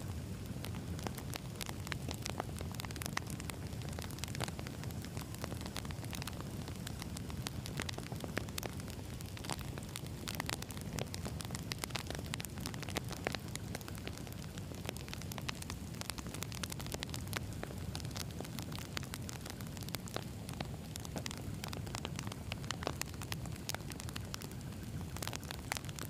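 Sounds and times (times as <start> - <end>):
burning logs crackling and popping: 0.0 - 26.0
flames rumbling: 0.0 - 26.0.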